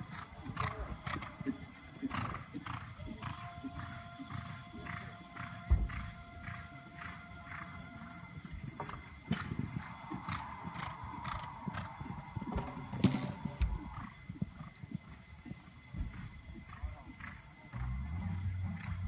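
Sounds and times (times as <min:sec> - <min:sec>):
horse cantering on sand: 0:00.0 - 0:19.0.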